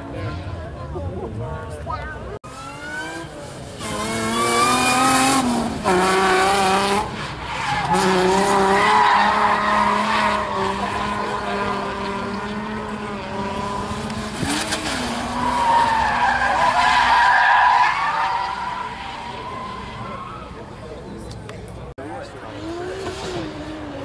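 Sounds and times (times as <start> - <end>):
car engines at high revs: 2.4 - 24.0.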